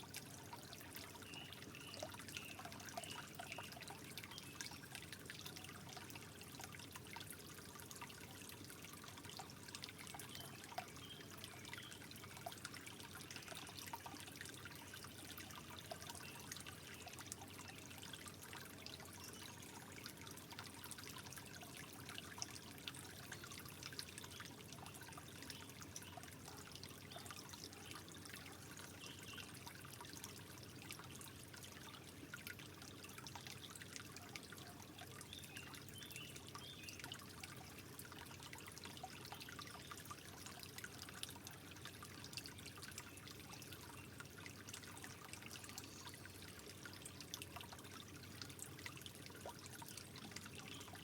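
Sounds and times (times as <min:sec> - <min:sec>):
water trickling: 0:00.0 - 0:51.0.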